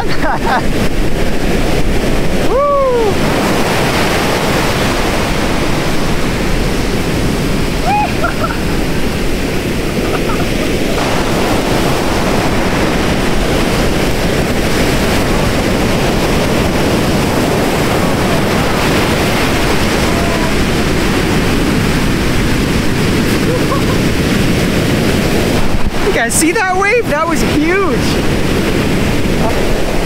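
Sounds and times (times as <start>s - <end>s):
ocean waves breaking: 0.0s - 30.0s
wind on microphone: 0.0s - 30.0s.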